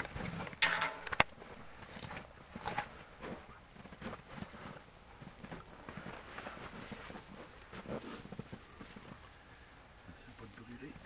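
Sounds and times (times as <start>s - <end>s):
small fire crackling: 0.0s - 11.0s.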